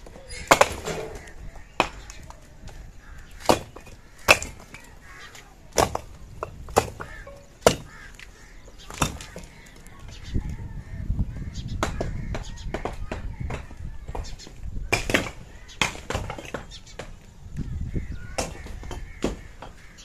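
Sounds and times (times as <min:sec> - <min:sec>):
bricks hitting the ground: 0:00.0 - 0:08.2, 0:08.8 - 0:10.2, 0:11.7 - 0:17.3, 0:18.3 - 0:20.0.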